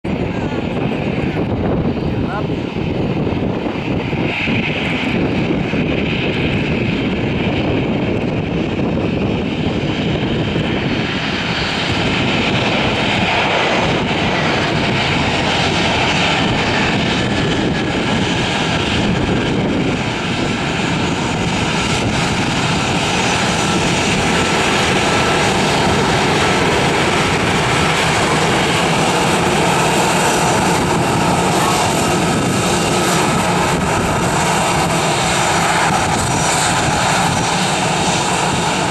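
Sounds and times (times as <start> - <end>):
jet engines taxiing with whine: 0.1 - 38.9.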